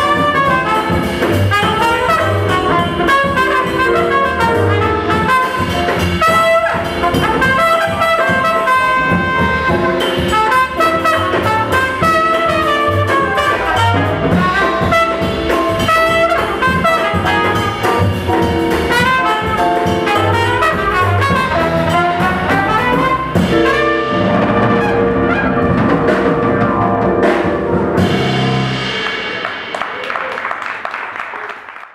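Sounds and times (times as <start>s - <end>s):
trumpet: 0.0s - 29.5s
jazz quartet playing: 0.0s - 29.7s.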